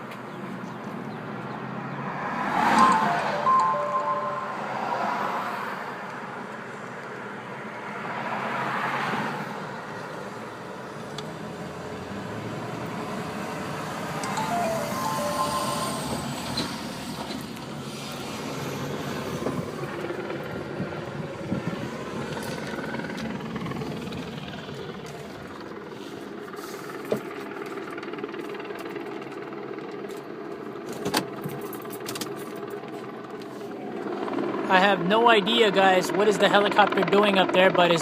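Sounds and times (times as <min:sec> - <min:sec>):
passing traffic: 0:00.0 - 0:38.0.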